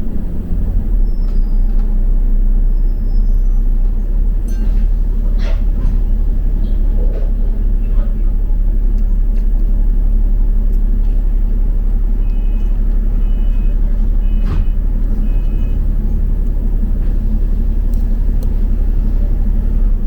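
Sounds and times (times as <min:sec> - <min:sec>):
bus engine low rumble: 0:00.0 - 0:20.0.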